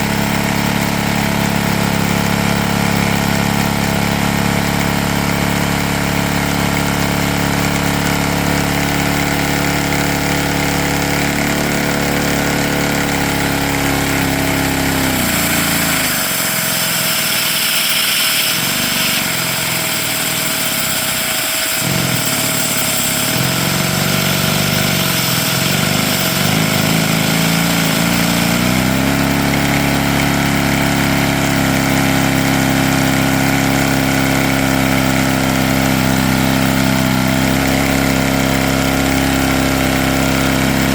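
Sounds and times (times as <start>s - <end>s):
small vacuum engine humming: 0.0s - 40.9s.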